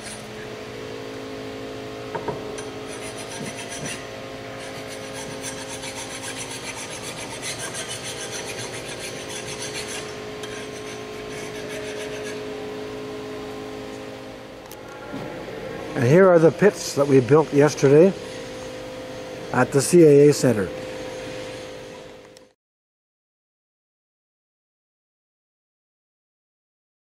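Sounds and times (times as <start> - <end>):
steady hum: 0.0 - 22.6.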